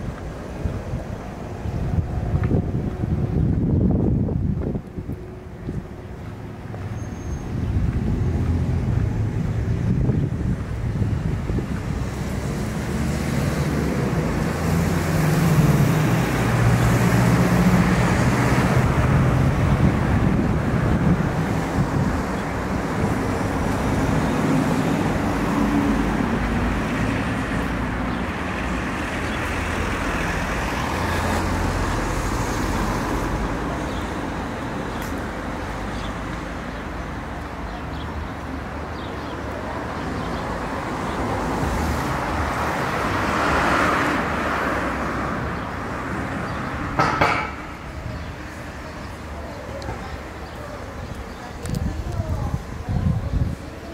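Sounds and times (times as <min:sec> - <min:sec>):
road traffic: 0:00.0 - 0:53.9
vehicle engine hum: 0:00.0 - 0:53.9
vehicle passing: 0:05.4 - 0:50.6.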